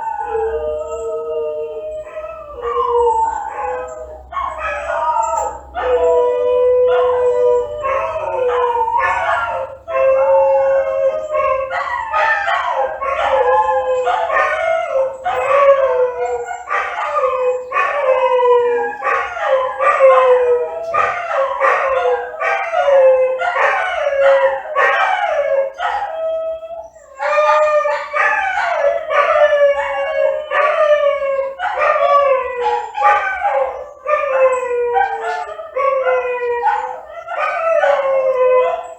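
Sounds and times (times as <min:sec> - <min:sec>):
dogs howling: 0:00.0 - 0:38.9.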